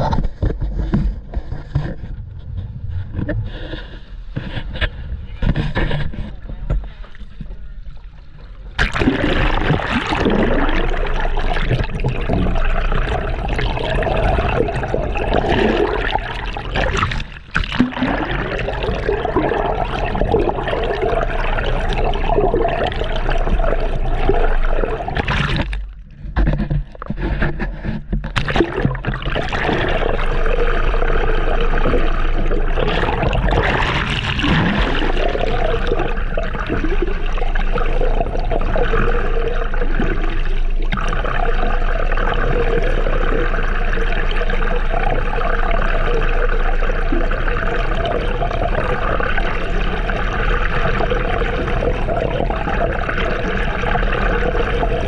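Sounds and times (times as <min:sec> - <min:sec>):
seawater gurgling and sloshing: 0:00.0 - 0:55.0.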